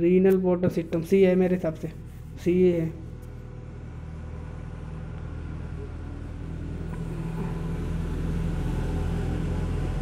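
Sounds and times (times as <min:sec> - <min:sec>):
low mechanical hum with rumble: 0:00.0 - 0:10.0.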